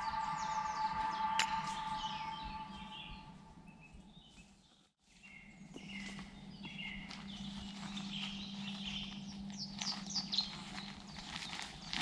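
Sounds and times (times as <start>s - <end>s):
birds chirping and twittering: 0.0s - 12.0s
low hum: 0.0s - 12.0s.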